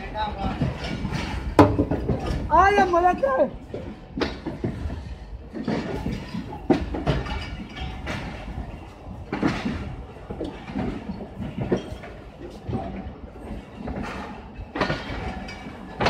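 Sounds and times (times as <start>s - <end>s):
clanks and knocks from couplings: 0.0s - 3.0s, 3.6s - 16.0s
train coaches rumbling: 0.0s - 16.0s.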